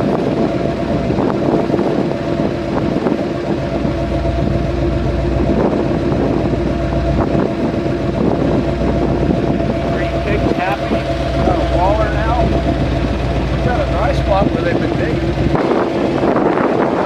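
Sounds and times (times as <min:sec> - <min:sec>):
vehicle engine humming: 0:00.0 - 0:17.0
wind buffeting microphone: 0:00.0 - 0:17.0.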